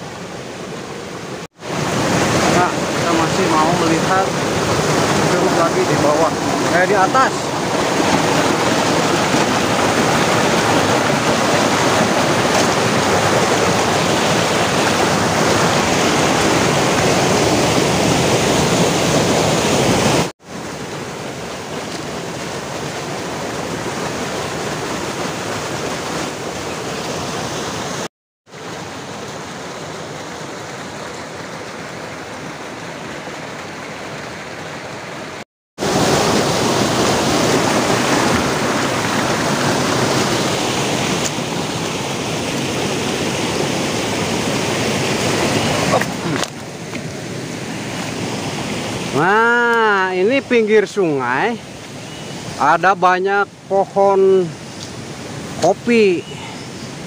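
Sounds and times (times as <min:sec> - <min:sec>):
stream rushing over cascade: 0:00.0 - 0:57.0.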